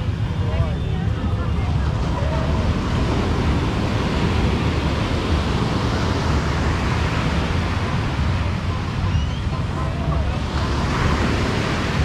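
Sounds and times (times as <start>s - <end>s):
ocean surf breaking: 1.6s - 12.0s.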